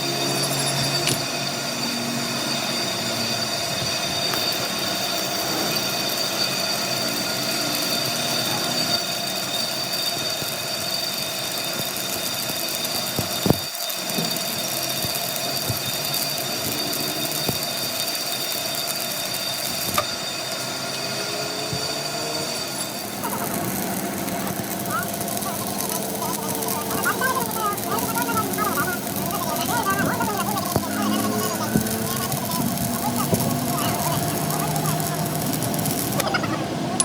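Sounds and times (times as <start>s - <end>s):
machine whining: 0.0s - 37.0s.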